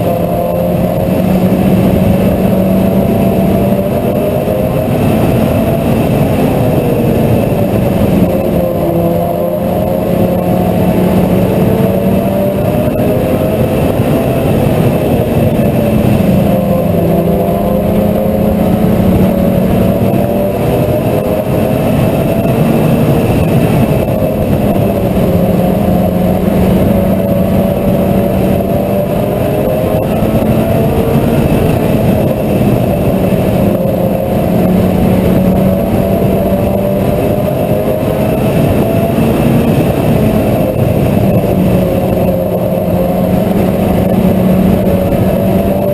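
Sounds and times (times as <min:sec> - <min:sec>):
race car engine running hard: 0:00.0 - 0:45.9.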